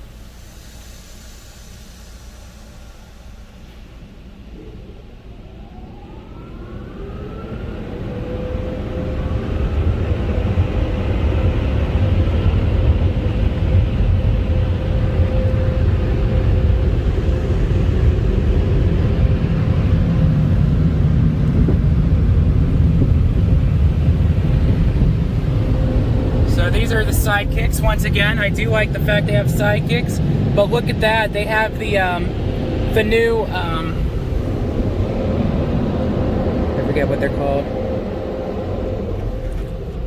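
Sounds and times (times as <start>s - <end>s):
air rushing against car: 0.0s - 5.7s, 7.0s - 40.0s
car wash blowers whining: 0.0s - 40.0s.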